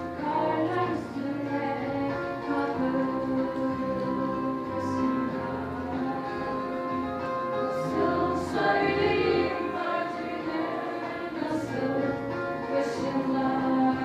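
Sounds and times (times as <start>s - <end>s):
group of voices singing: 0.0s - 14.0s
instrumental accompaniment: 0.0s - 14.0s.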